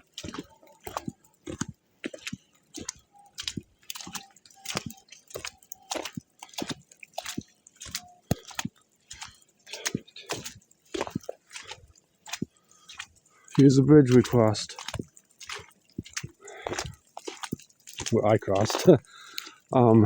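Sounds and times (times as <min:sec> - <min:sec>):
footsteps on wet snow: 0:00.0 - 0:20.0.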